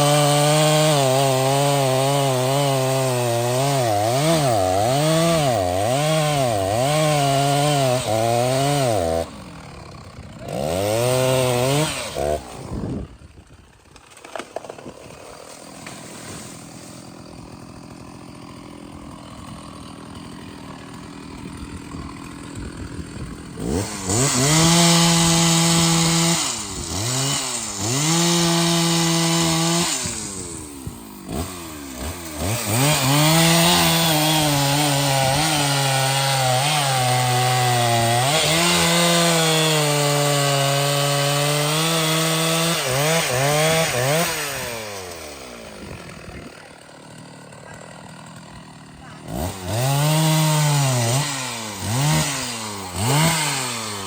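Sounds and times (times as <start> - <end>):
chainsaw cutting wood: 0.0 - 54.0
chainsaw idling and revving: 0.0 - 54.0.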